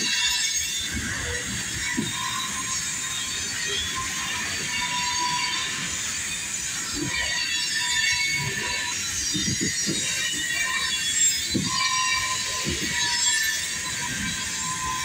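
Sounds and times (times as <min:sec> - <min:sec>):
steel wheels squealing on rail: 0:00.0 - 0:15.0.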